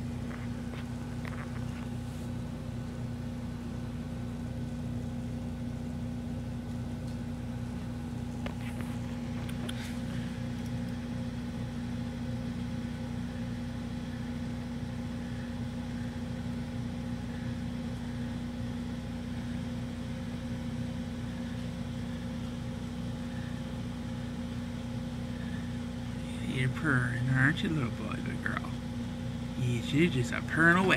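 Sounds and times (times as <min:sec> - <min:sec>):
constant low hum: 0:00.0 - 0:30.9.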